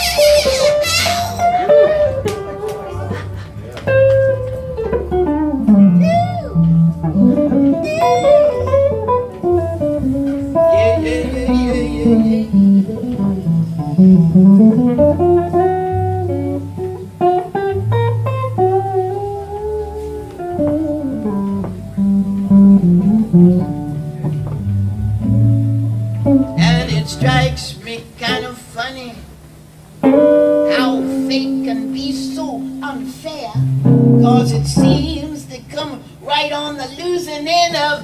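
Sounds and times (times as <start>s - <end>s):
bass guitar: 0.0s - 28.5s, 29.6s - 35.9s
electric guitar lead with bent notes: 0.0s - 28.5s, 29.2s - 35.8s.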